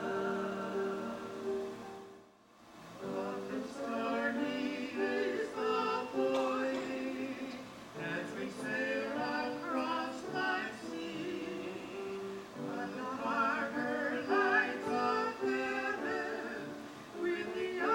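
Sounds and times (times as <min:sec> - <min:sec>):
choir singing: 0:00.0 - 0:02.2, 0:03.0 - 0:17.9.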